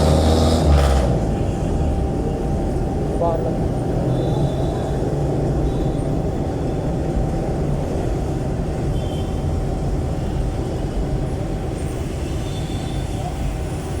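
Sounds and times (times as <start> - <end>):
loud diesel exhaust rumble: 0.0 - 13.7.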